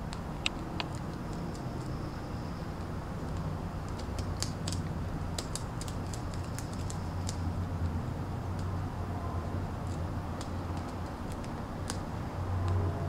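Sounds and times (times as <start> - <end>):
rabbit gnawing twigs: 0.0 - 13.0
steady low hum: 0.0 - 13.0.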